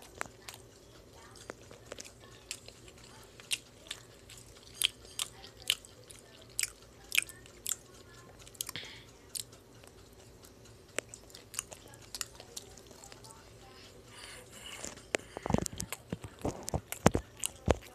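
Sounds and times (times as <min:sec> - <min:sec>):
wet chewing mouth clicks: 0:00.0 - 0:17.9.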